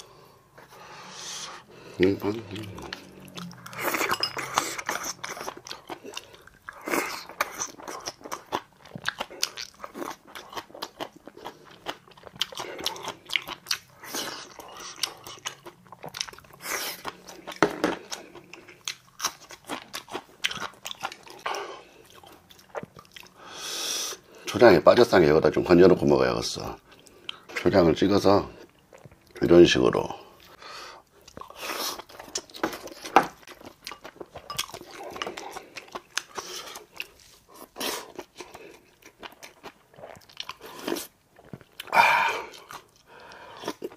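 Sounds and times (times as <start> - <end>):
person chewing crunchy food: 0.0 - 24.6, 30.3 - 43.9.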